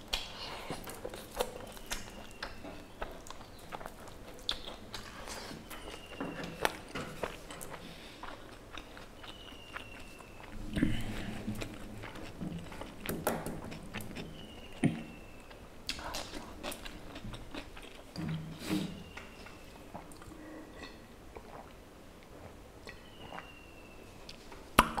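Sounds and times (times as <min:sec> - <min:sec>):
chewing and lip smacks: 0:00.0 - 0:23.5.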